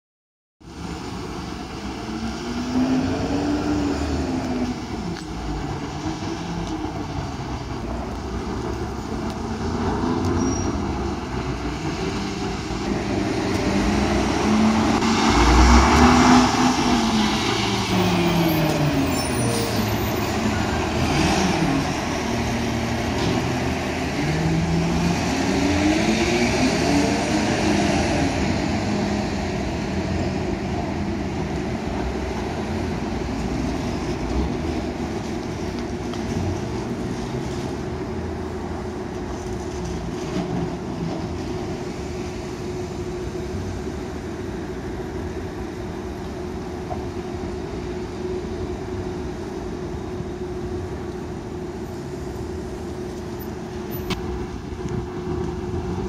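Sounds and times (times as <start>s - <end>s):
traffic: 0.6s - 56.0s
truck: 0.6s - 56.0s.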